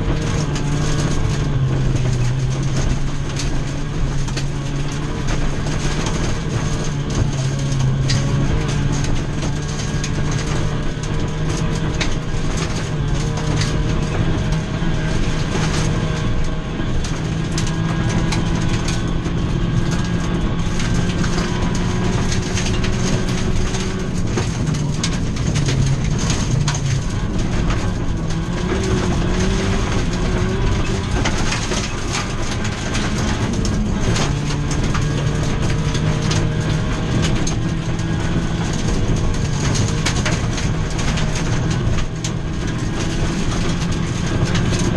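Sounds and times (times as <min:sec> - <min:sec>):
rally car engine running hard: 0:00.0 - 0:44.9.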